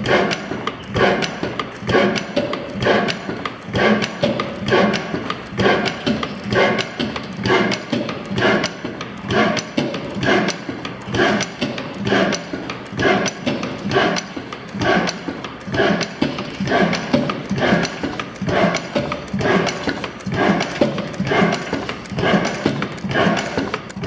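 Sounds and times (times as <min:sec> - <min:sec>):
stationary engine clattering: 0:00.0 - 0:24.0.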